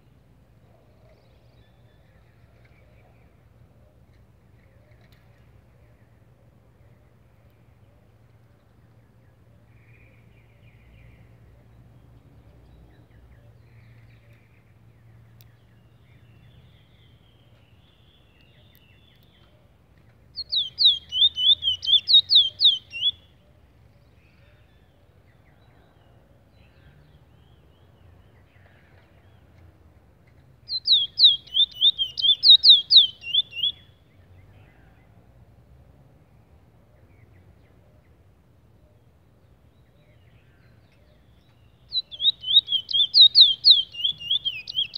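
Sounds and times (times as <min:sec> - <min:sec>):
bird singing: 0:00.0 - 0:35.1, 0:36.9 - 0:44.9.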